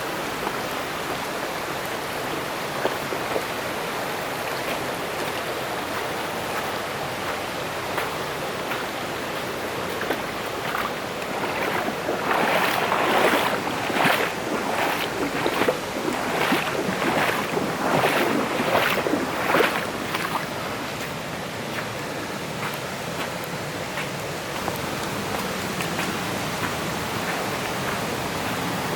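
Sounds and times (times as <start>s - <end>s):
mountain stream rushing: 0.0s - 28.9s
feet wading through water: 0.2s - 28.8s.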